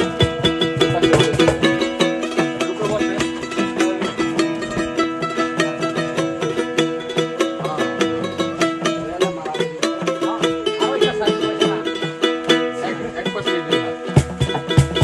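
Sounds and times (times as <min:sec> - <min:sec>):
plucked string instrument strummed: 0:00.0 - 0:15.0.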